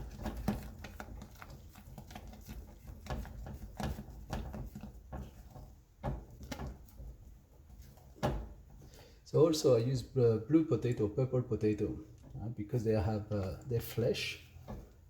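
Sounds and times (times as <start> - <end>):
utensil stirring mashed potato: 0.0 - 15.0.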